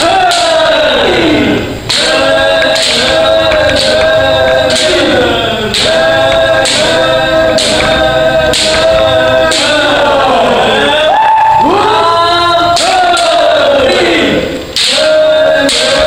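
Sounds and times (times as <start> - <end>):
people shouting together: 0.0 - 16.0.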